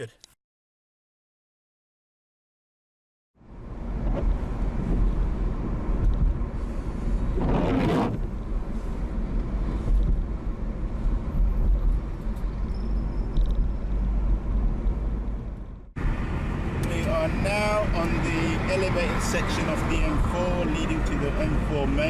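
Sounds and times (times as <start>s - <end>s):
car road noise: 3.4s - 22.0s.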